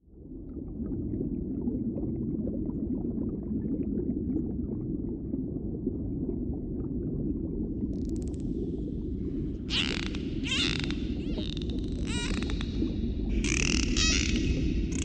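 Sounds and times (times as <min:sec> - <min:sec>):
underwater water rumble: 0:00.0 - 0:15.0.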